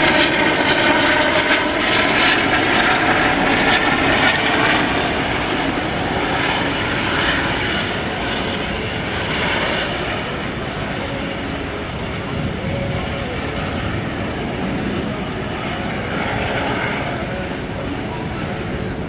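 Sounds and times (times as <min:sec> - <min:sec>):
helicopter engine and rotors: 0:00.0 - 0:19.0.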